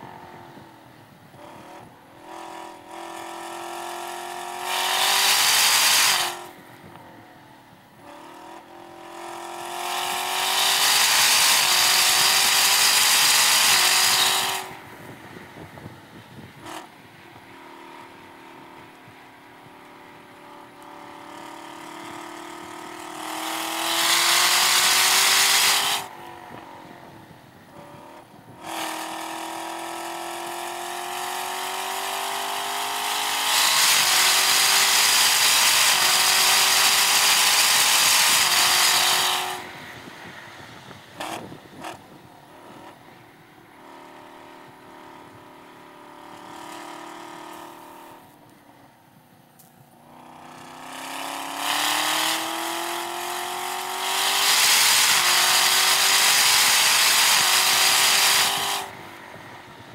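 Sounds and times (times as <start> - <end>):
car engine revving at full throttle: 0.0 - 49.0, 49.6 - 59.9.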